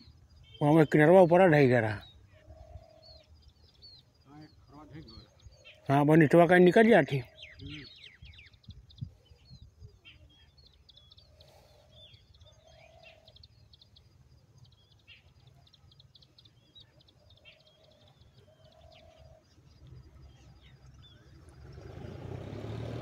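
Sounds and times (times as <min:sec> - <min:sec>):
lower bird calls: 0:00.0 - 0:23.0.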